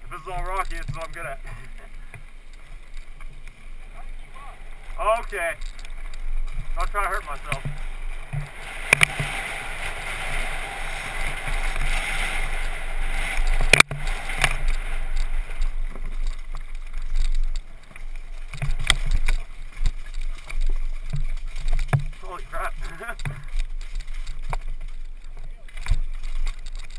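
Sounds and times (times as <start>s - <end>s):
bike knocking and rattling: 0.0s - 26.9s
tyres rushing on gravel: 0.0s - 26.9s
wind over camera: 0.0s - 26.9s.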